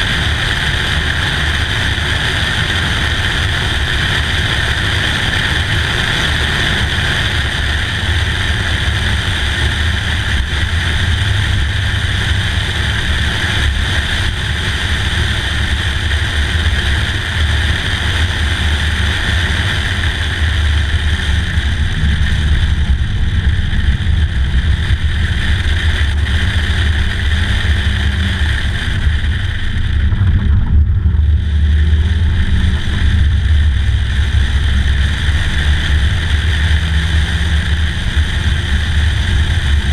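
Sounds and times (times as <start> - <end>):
car engine cruising: 0.0 - 39.9
road noise: 0.0 - 39.9
wind buffeting microphone: 0.0 - 39.9.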